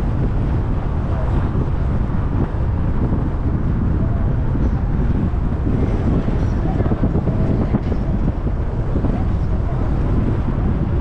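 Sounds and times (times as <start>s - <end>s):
road and engine rumble: 0.0s - 11.0s
wind buffeting microphone: 0.0s - 11.0s.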